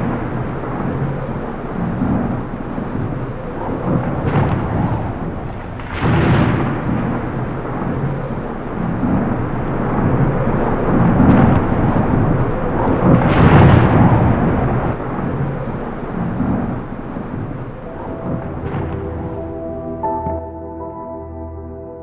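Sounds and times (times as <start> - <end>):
thunder rumbling: 0.0 - 21.7.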